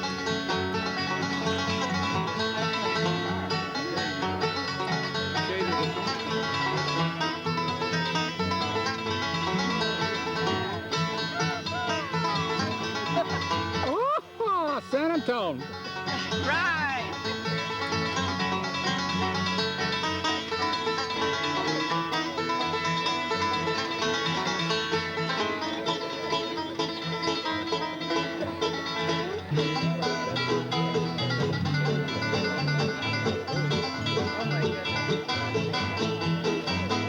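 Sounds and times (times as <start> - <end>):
banjo picking: 0.0 - 37.0
bluegrass band playing: 0.0 - 37.0
guitar picking: 0.0 - 37.0.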